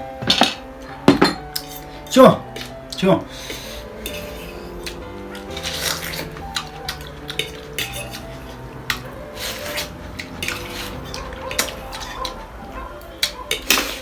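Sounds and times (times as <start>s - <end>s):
cutlery clinking on plates: 0.2s - 2.7s, 3.5s - 14.0s.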